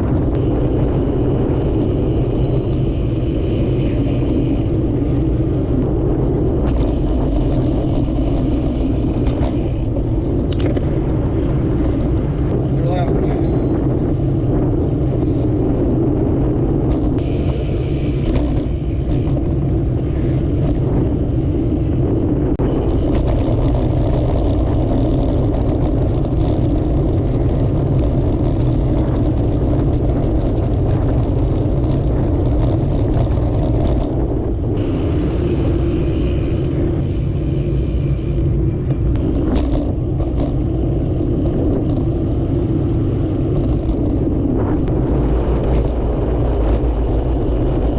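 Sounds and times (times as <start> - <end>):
road traffic noise: 0.0 - 47.9
wind rush on microphone: 0.0 - 47.9.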